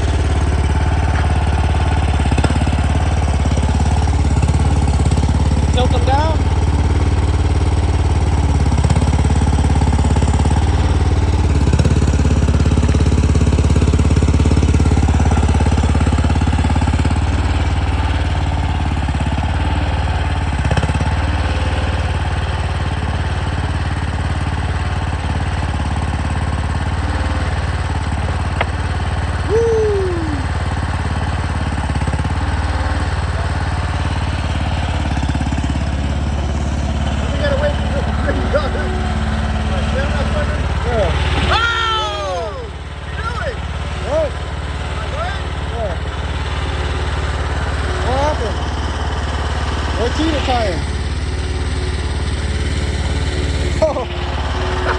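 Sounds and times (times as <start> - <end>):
skid steer engine running: 0.0 - 54.9.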